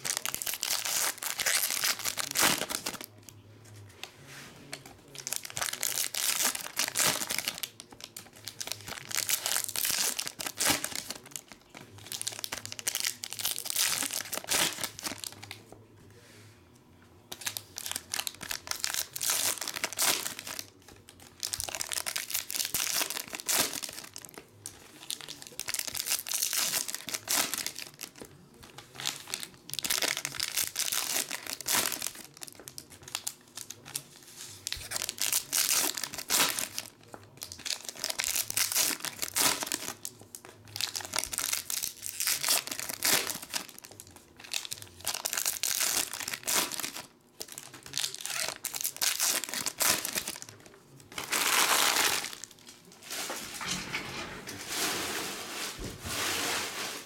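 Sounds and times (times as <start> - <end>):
foil wrappers tearing and crinkling: 0.0 - 3.2, 4.7 - 15.6, 17.3 - 34.0, 34.6 - 53.7.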